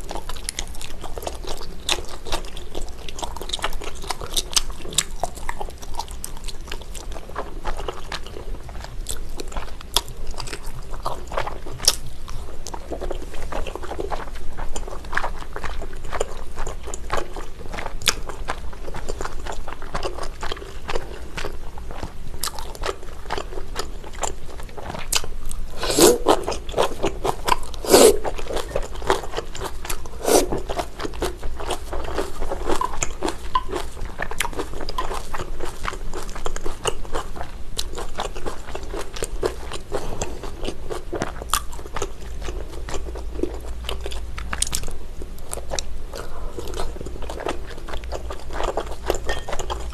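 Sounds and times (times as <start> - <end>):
wet chewing: 0.0 - 44.9.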